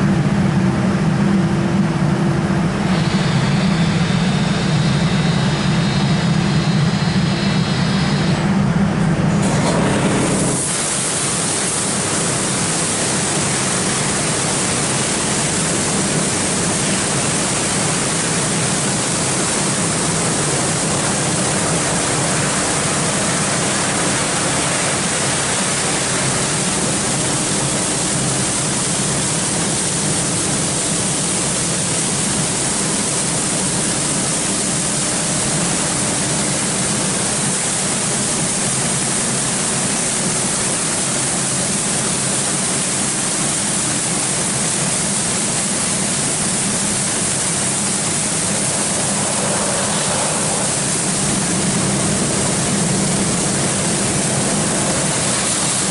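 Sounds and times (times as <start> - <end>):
high pressure water jets hissing: 9.5 - 55.9.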